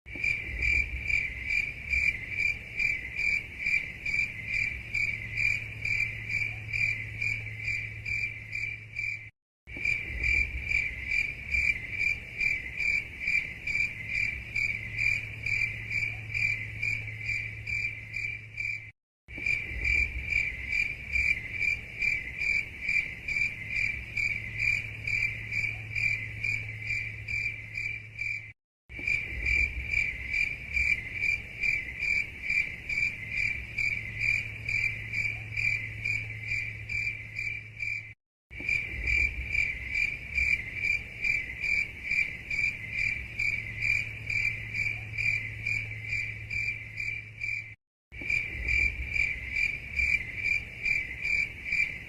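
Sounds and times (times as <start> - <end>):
cricket chirping: 0.1 - 52.0.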